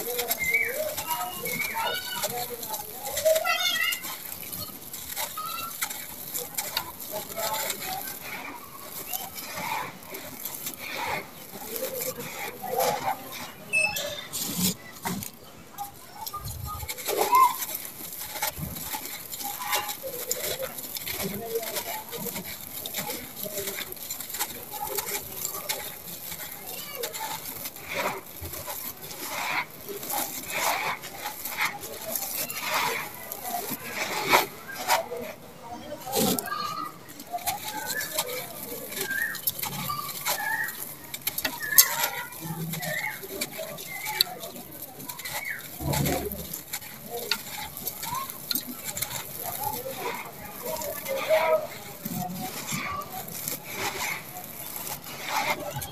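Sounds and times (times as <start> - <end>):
faint voices: 0.0 - 55.9
grit pattering onto cement: 0.0 - 55.9
sand crumbling between fingers: 0.0 - 55.9.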